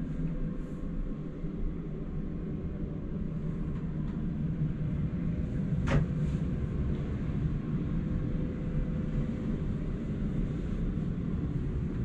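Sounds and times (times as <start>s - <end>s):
low machinery rumble and hum: 0.0s - 12.0s.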